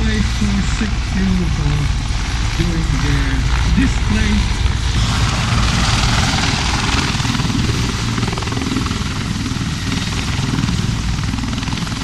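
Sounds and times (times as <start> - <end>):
aircraft rushing and rumbling: 0.0 - 12.0.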